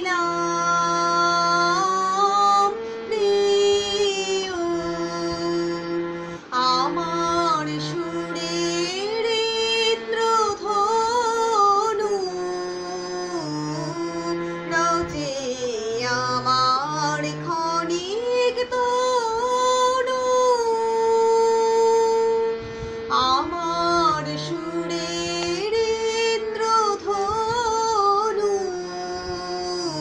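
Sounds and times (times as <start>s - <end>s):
harmonium: 0.0s - 30.0s
woman singing: 0.0s - 30.0s.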